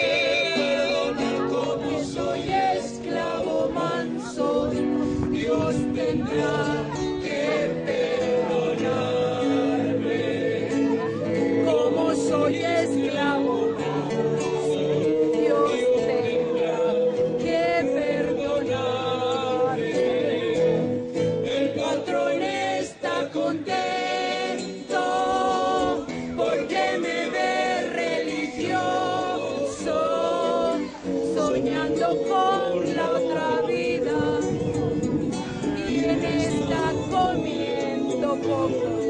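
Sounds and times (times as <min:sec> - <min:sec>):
vocal group singing in harmony: 0:00.0 - 0:39.0.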